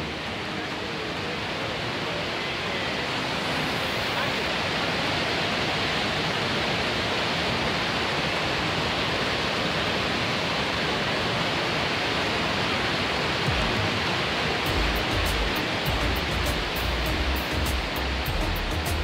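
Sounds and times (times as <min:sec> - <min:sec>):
large waterfall rushing: 0:00.0 - 0:19.0.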